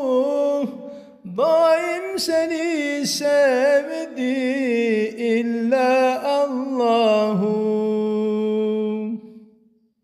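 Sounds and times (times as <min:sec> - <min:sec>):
man singing a devotional hymn: 0:00.0 - 0:09.4.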